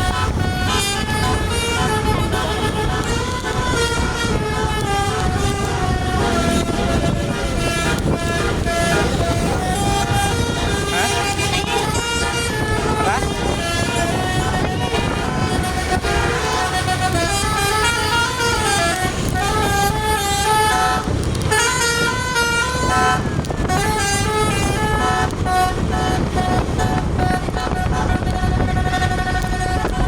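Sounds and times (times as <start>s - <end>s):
bus engine: 0.0s - 30.0s
bus horn tune: 0.0s - 30.0s
road rumble: 0.0s - 30.0s.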